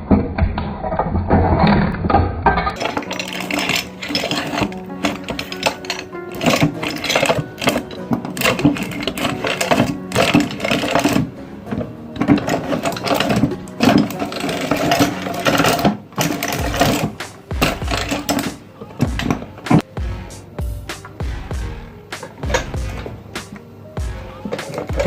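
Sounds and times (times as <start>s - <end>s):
crunching and crackling: 0.0s - 19.9s, 22.2s - 25.0s.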